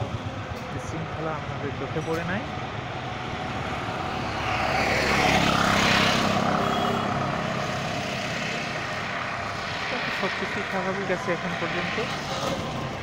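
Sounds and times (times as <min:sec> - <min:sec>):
motor vehicle passing: 0:01.3 - 0:13.0.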